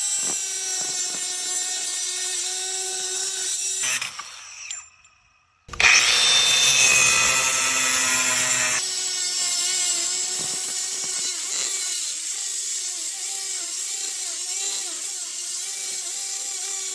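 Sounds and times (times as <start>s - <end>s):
angle grinder cutting: 0.0s - 16.9s.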